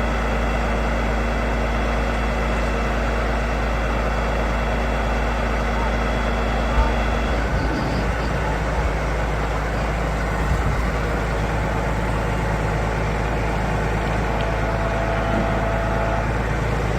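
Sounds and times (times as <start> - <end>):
large vehicle engine rumbling: 0.0 - 16.9.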